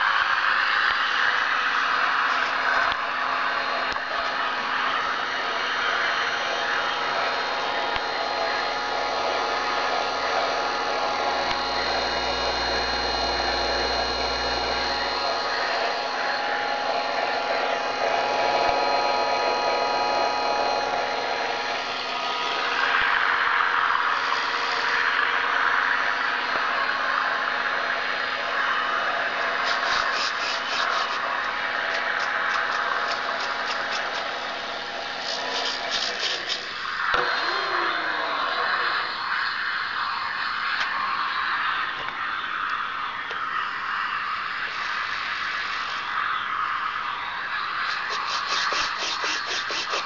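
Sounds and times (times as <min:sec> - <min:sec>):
electric motor spinning propeller: 0:00.0 - 0:50.0.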